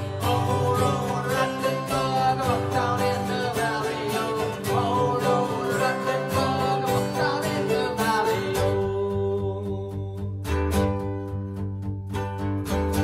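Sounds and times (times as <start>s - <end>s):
person singing: 0.0s - 10.6s
acoustic guitar strumming: 0.0s - 13.0s.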